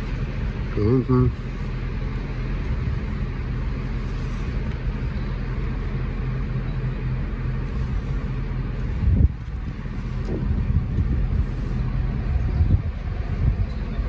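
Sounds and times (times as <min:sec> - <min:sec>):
constant low hum: 0:00.0 - 0:14.0
motorway traffic rumble: 0:00.0 - 0:14.0.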